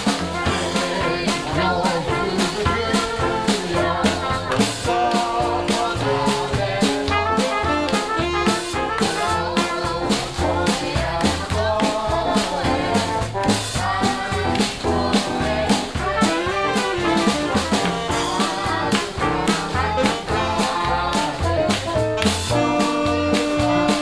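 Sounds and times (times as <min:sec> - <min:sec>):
brass horns: 0:00.0 - 0:24.0
drums and bass beat: 0:00.0 - 0:24.0
jazz band playing swing: 0:00.0 - 0:24.0.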